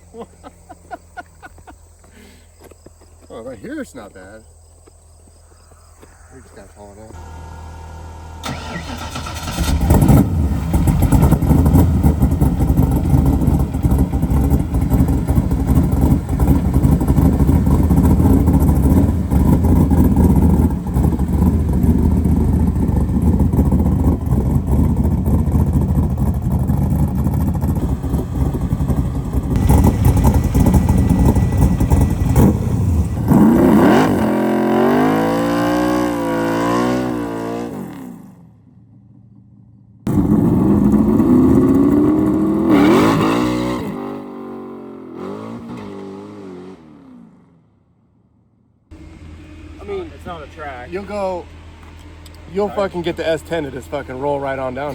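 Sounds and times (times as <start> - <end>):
vehicle engine and road noise: 0.0 - 54.9.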